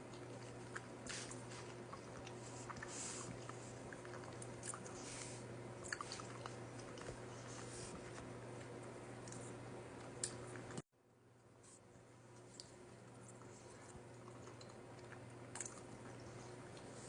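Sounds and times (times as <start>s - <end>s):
wet chewing and smacking: 0.0s - 10.8s, 12.4s - 17.0s
faint low hum: 0.0s - 17.0s.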